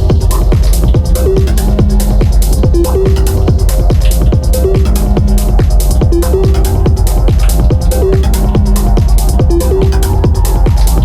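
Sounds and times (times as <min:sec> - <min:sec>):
bright hi-hats: 0:00.0 - 0:11.0
driving kick drum: 0:00.0 - 0:11.0
repeating synth riff: 0:00.0 - 0:11.0.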